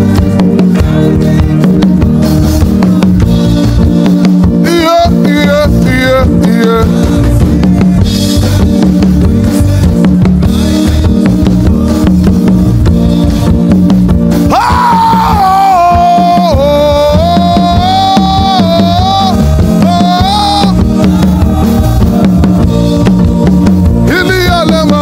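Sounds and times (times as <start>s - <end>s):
band playing worship music: 0.0s - 25.0s.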